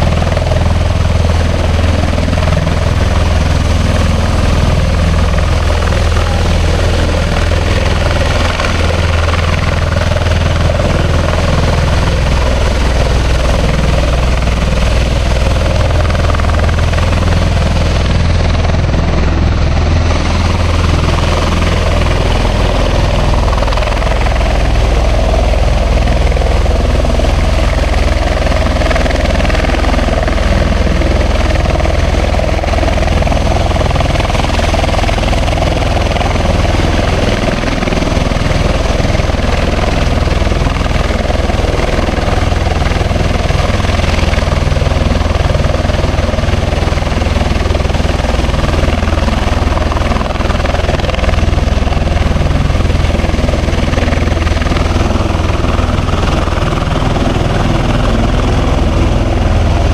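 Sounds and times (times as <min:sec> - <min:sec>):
helicopter rotor hum: 0:00.0 - 0:59.9.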